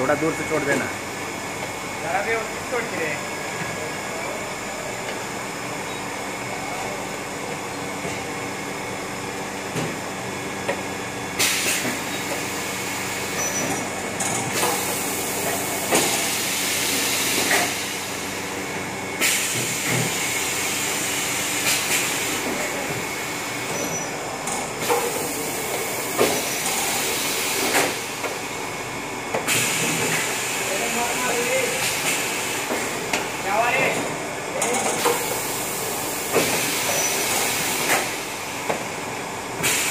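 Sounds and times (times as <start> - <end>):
conveyor mechanical hum: 0.0 - 39.9.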